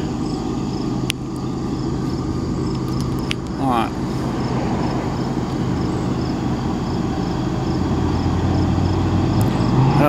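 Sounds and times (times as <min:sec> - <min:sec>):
distant diesel locomotive droning: 0:00.0 - 0:10.0
insects chirping: 0:00.0 - 0:10.0.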